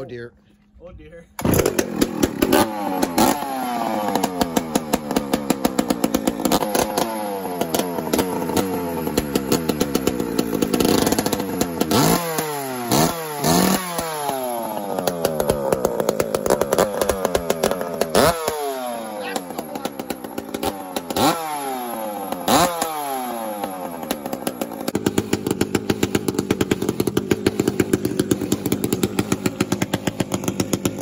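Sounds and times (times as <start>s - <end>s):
chainsaw revving: 1.4s - 31.0s.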